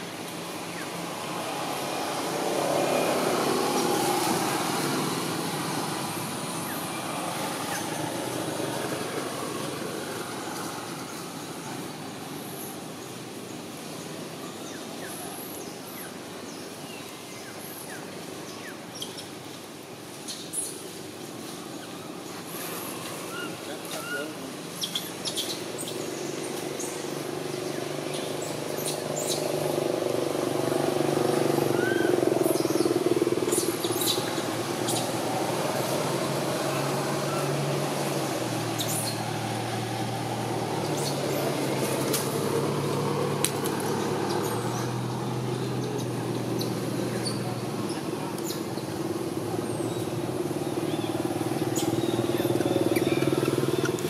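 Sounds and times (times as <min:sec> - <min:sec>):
outdoor rumble and hiss: 0:00.0 - 0:54.0.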